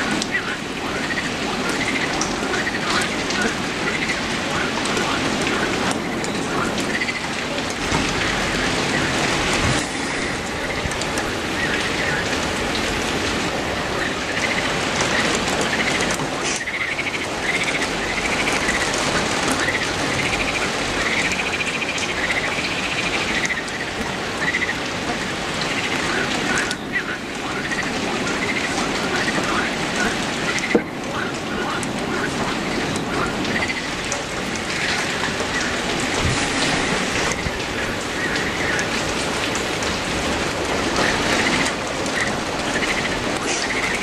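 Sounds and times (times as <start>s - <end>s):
rain falling through trees: 0.0s - 44.0s.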